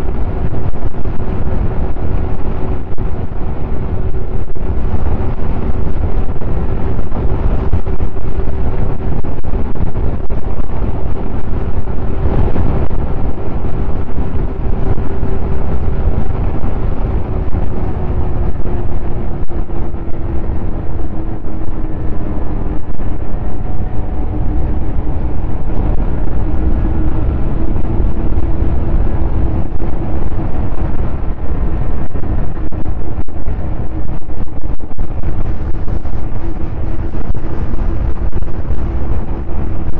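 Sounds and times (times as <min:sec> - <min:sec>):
snowmobile engine running: 0:00.0 - 0:39.9
wind buffeting microphone: 0:00.0 - 0:39.9.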